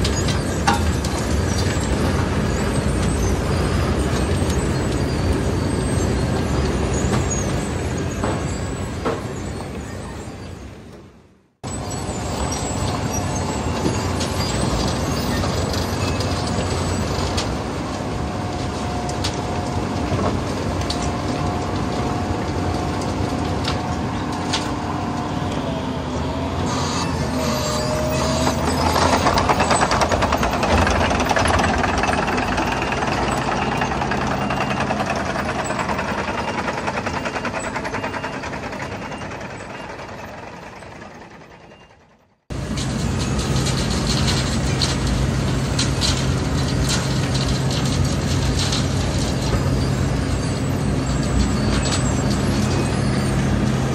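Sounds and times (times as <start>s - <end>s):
cold planer milling asphalt: 0.0s - 53.9s.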